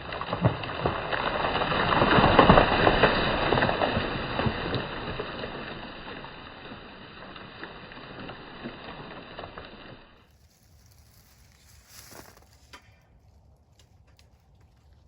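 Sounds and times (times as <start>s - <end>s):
tree crown crashing through branches: 0.0s - 13.4s.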